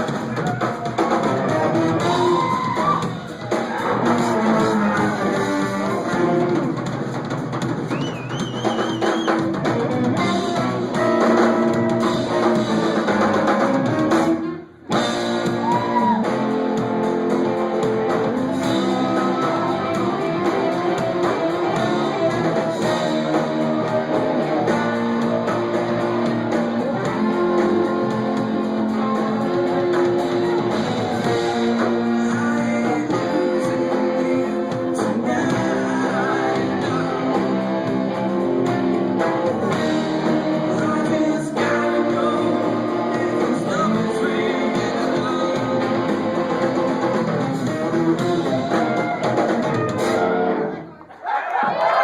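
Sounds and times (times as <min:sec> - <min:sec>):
live rock band: 0:00.0 - 0:51.1.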